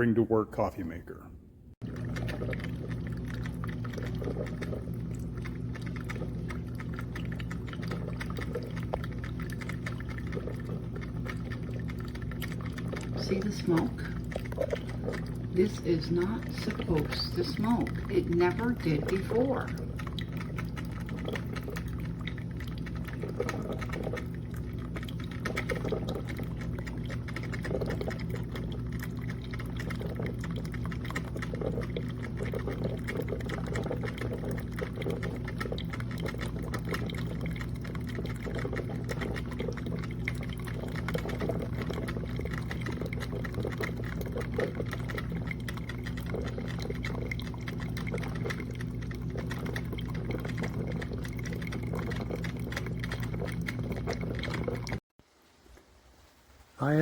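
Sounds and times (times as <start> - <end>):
low hum: 0.0 - 55.0
coffee maker water gurgling: 1.8 - 55.8.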